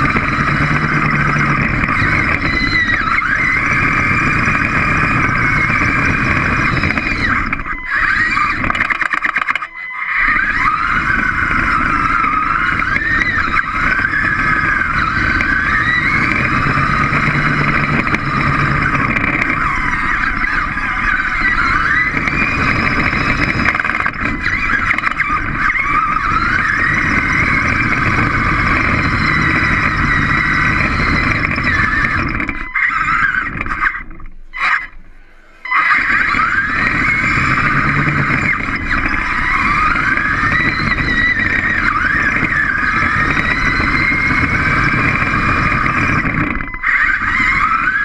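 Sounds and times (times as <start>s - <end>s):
low running noise: 0.0s - 48.0s
robot drive motors whining: 0.0s - 48.0s.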